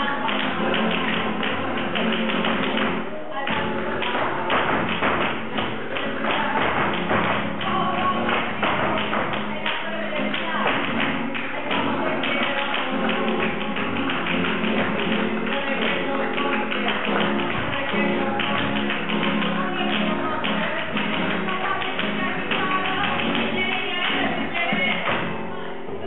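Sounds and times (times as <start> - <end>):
shoes tapping on stage: 0.0 - 25.5
flamenco guitar music: 0.0 - 26.0.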